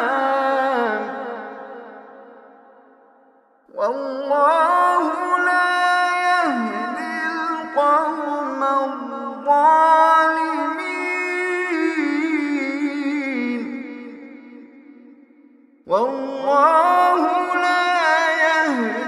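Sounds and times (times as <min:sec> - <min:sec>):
man chanting melodically: 0:00.0 - 0:01.5, 0:03.7 - 0:14.5, 0:15.9 - 0:19.0.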